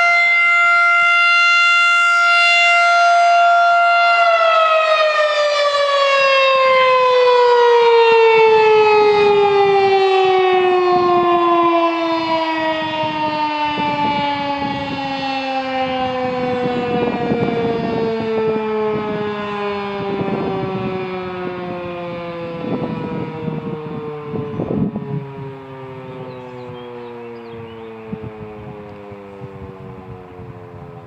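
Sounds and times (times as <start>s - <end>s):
warning siren winding down: 0.0s - 31.0s.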